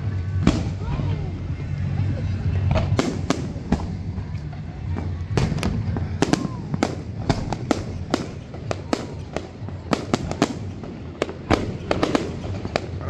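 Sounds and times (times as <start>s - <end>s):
fireworks bangs and pops: 0.0s - 13.0s
low background noise: 0.0s - 13.0s.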